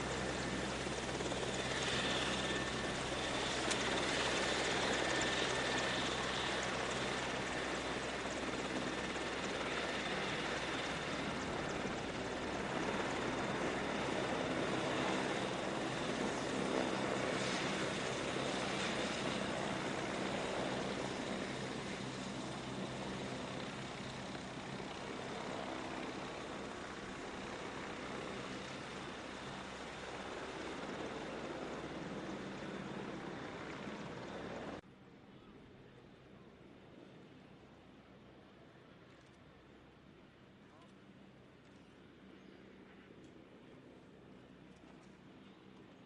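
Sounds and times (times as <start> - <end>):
helicopter engines and rotors: 0.0 - 46.0.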